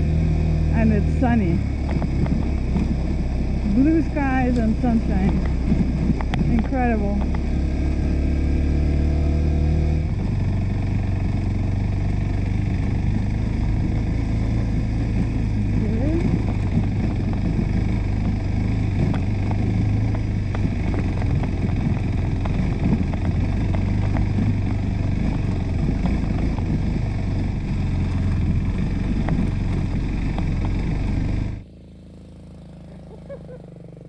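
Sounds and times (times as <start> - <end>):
low hum: 0.0 - 34.0
motorcycle engine drone: 0.0 - 34.0
rough road noise: 0.0 - 34.0.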